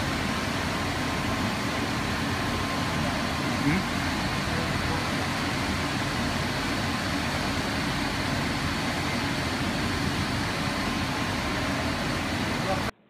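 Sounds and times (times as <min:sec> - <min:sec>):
machine hiss with low hum: 0:00.0 - 0:13.0.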